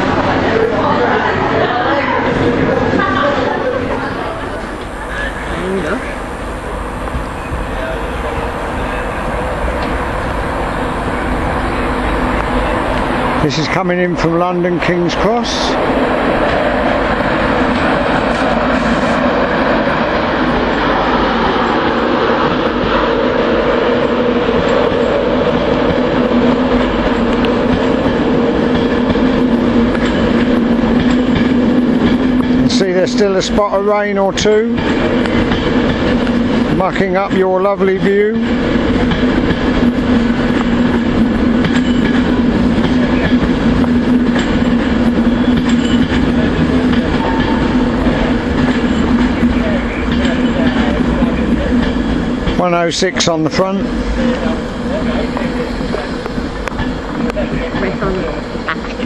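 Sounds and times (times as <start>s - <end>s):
train rolling with low hum: 0.0s - 59.0s.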